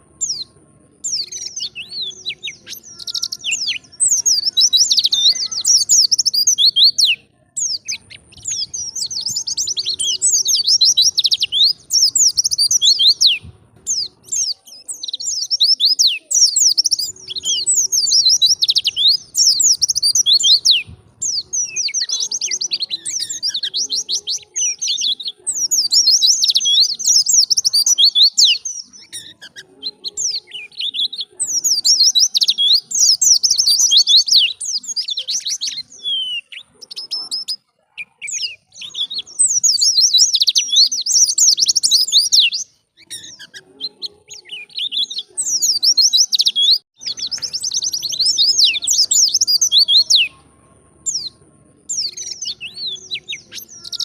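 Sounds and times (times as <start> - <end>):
bird twittering: 0.0 - 50.4.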